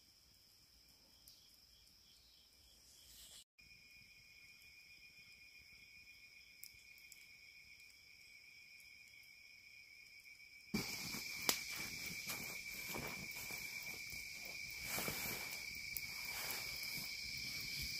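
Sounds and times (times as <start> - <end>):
insects trilling: 0.0 - 17.9
lower insect trill: 0.0 - 17.9.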